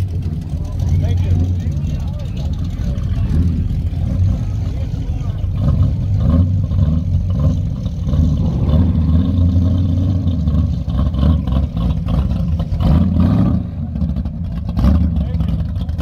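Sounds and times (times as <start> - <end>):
car engine rumbling through exhaust: 0.0 - 16.0.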